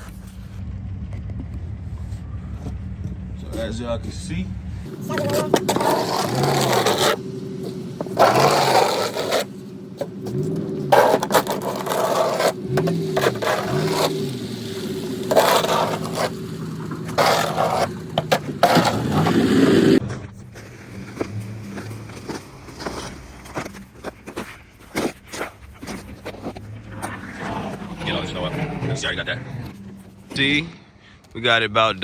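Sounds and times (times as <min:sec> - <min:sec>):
engine humming: 0:00.0 - 0:32.0
snow shovel scraping pavement: 0:03.4 - 0:30.6.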